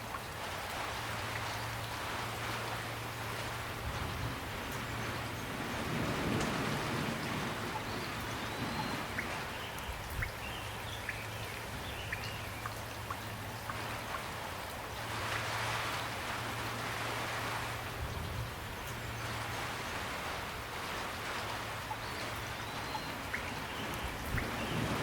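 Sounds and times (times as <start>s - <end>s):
close water drips: 0.0s - 19.9s, 20.5s - 25.0s
gentle rain falling: 0.0s - 25.0s.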